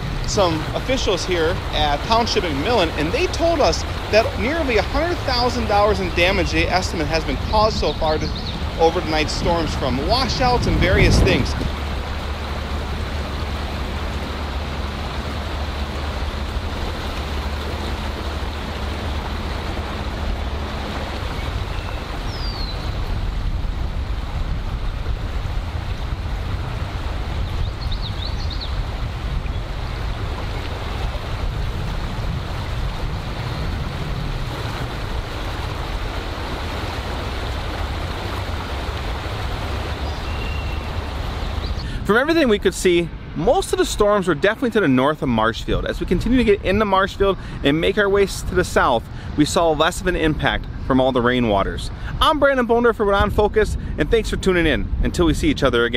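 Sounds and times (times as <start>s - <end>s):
flooded creek rushing: 0.0s - 55.9s.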